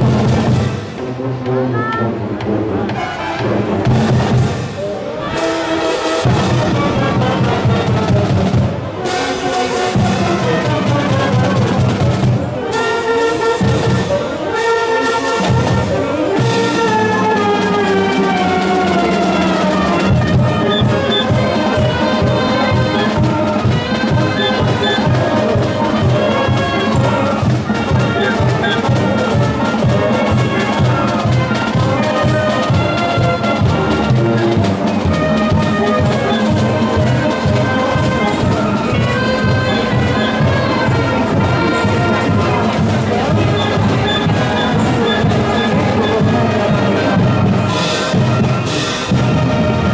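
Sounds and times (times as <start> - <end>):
marching band playing: 0.0 - 49.9.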